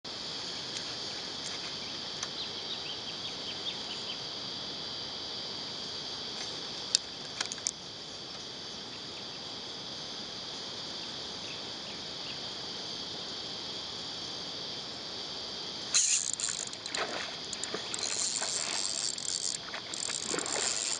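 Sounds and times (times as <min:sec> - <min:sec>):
insects droning: 0:00.1 - 0:20.9.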